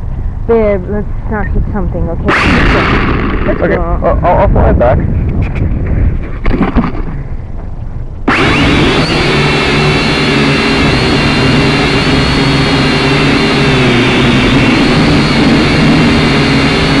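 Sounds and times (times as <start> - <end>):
drone motors whining: 0.0 - 5.9, 7.2 - 17.0.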